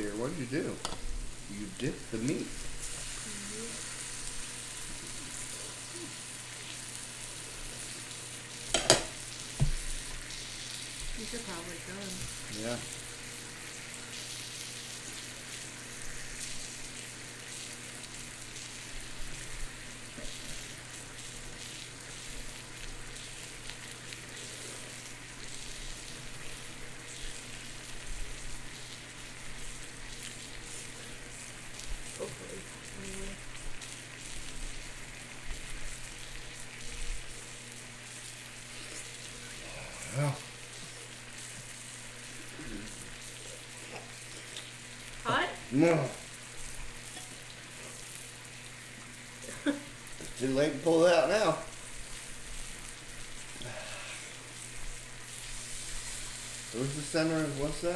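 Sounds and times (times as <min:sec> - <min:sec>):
meat sizzling on a grill: 0:00.0 - 0:57.9.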